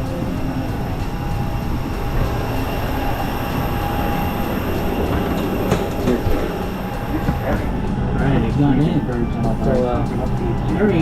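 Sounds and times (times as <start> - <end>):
airliner cabin rumble and hiss: 0.0 - 11.0
faint steady whine: 0.0 - 11.0.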